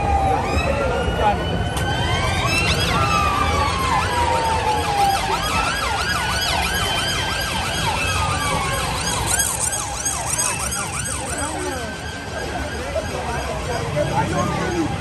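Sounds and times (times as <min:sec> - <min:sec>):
emergency vehicle sirens yelping: 0:00.0 - 0:15.0
street din: 0:00.0 - 0:15.0.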